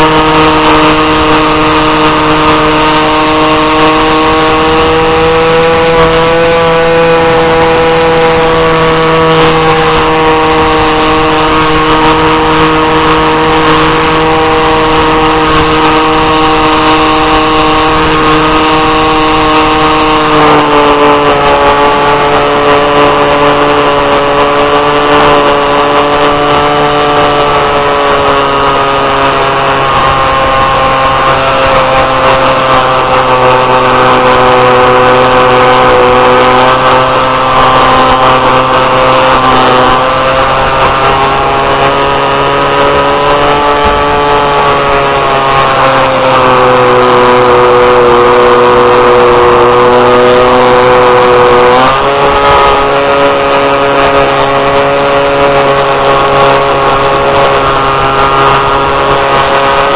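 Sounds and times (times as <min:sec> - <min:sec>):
model plane engine running: 0:00.0 - 0:59.9.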